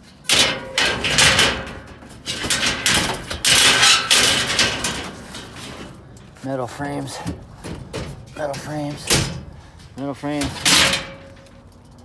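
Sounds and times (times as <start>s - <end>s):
metal scraping and clattering: 0.0s - 12.0s.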